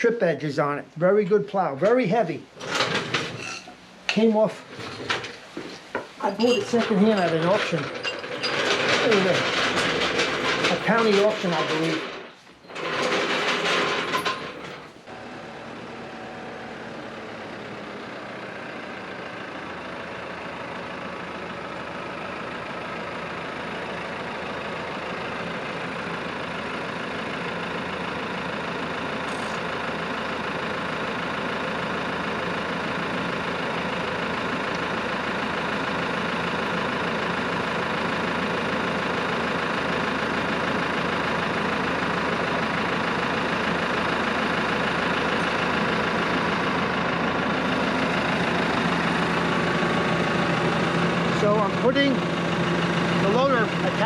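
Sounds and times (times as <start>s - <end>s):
tractor diesel engine running: 1.7s - 54.0s.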